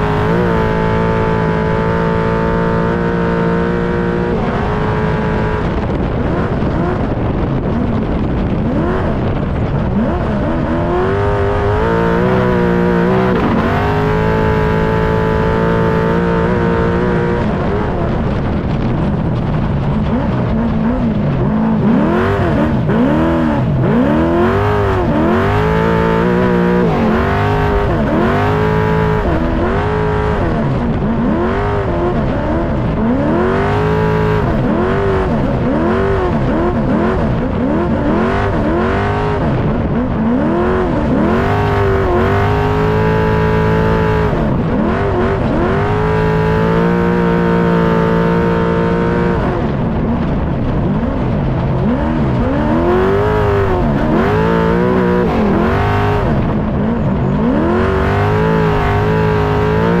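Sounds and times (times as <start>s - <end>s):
truck engine revving: 0.0s - 60.0s.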